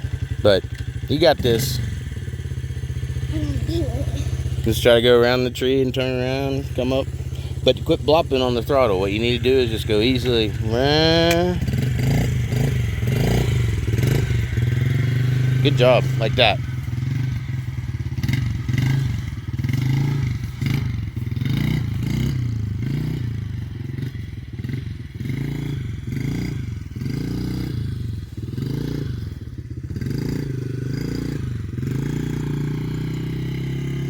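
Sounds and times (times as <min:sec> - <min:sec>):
small dirt bike engine revving: 0:00.0 - 0:34.0.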